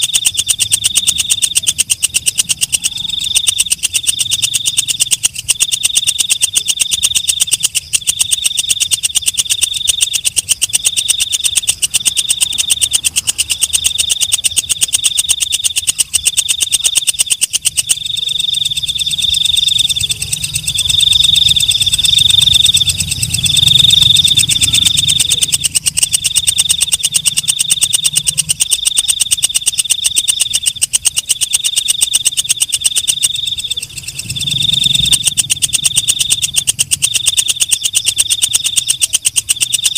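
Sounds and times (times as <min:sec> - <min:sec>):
katydid high-pitched pulsing trill: 0:00.0 - 0:39.9.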